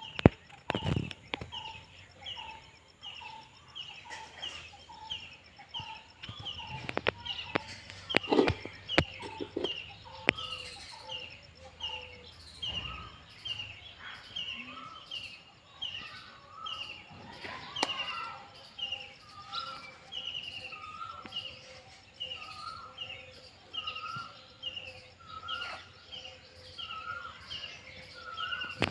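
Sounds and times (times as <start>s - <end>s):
bird chirping: 0.0s - 28.9s.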